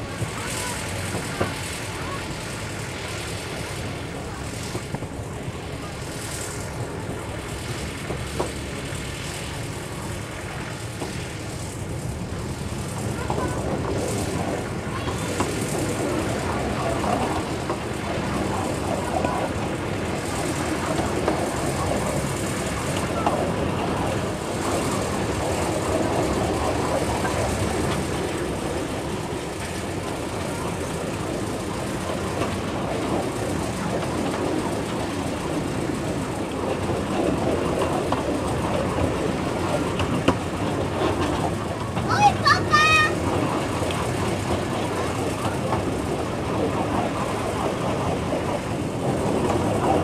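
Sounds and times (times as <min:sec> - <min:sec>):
diesel locomotive engine hum: 0:00.0 - 0:50.0
wagons rolling on rails: 0:00.0 - 0:50.0.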